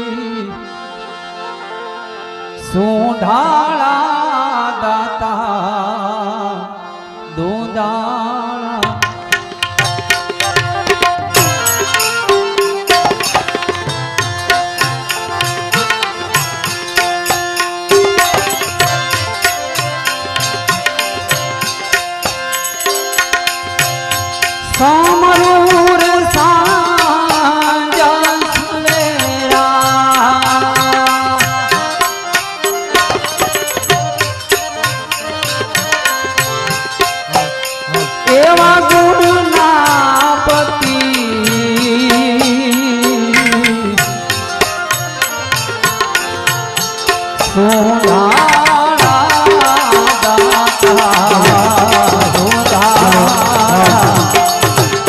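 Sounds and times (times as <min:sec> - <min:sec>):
person singing: 0:00.0 - 0:00.8, 0:01.6 - 0:09.2, 0:10.0 - 0:21.9, 0:24.6 - 0:33.9, 0:37.3 - 0:55.0
harmonium tones: 0:00.0 - 0:55.0
hand drum rhythm: 0:08.8 - 0:55.0.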